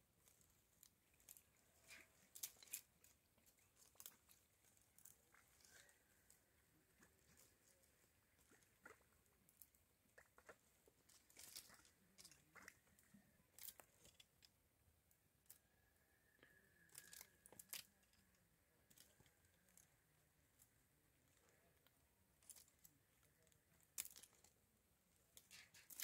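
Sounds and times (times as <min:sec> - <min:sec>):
faint clicks and crackles: 0:00.2 - 0:15.7, 0:16.4 - 0:26.0.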